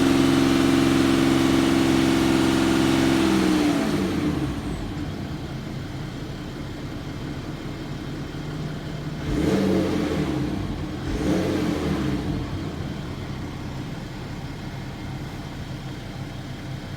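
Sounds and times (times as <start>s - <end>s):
diesel engine idling and revving: 0.0s - 16.9s.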